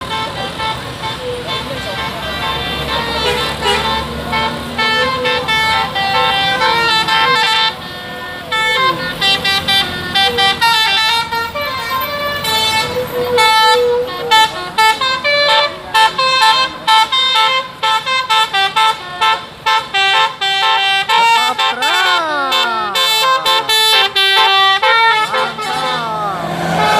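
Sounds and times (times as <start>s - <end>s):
bus air horns playing a melody: 0.0s - 26.9s.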